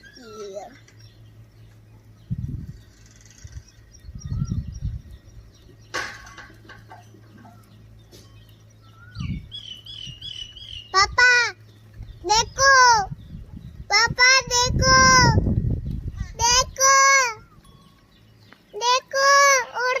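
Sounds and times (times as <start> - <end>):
steady low hum: 0.0 - 18.8
birds chirping: 0.0 - 20.0.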